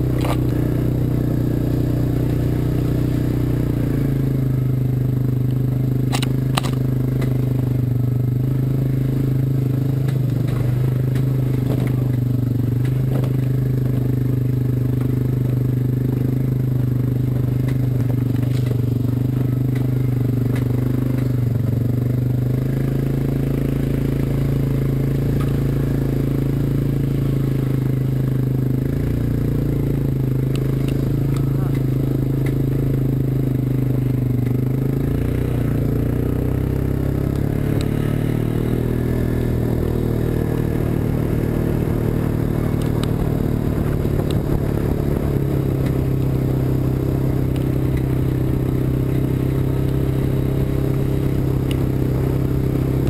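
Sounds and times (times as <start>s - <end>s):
quad engine running: 0.0s - 53.0s.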